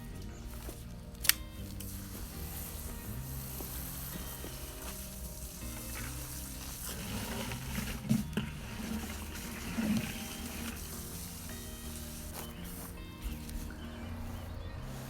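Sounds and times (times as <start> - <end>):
background music: 0.0 - 15.0
water running from garden hose: 0.0 - 15.0.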